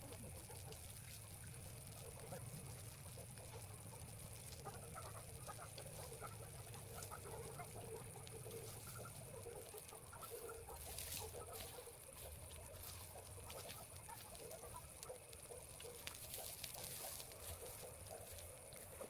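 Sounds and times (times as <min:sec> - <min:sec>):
chickens clucking: 0:03.1 - 0:19.0.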